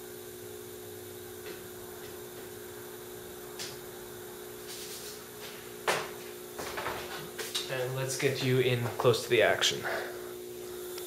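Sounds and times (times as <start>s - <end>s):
machine humming and hissing: 0.0s - 11.0s.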